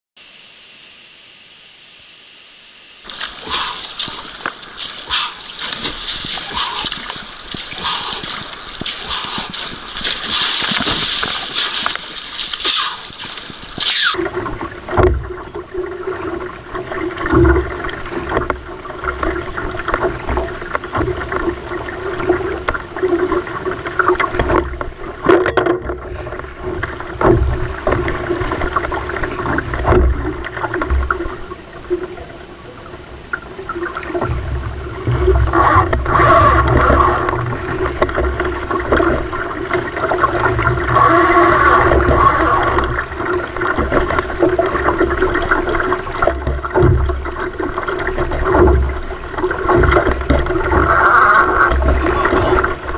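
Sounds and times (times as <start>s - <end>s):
water splashing around kayak hull: 3.0s - 52.9s
paddle strokes: 3.1s - 32.6s, 33.2s - 52.9s.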